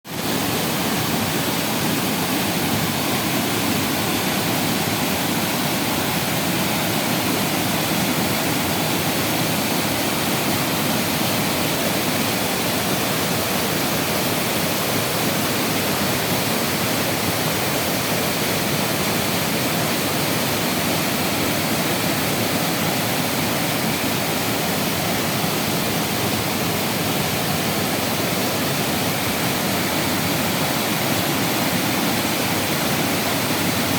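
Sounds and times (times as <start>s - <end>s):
waterfall pouring and crashing: 0.0s - 33.9s.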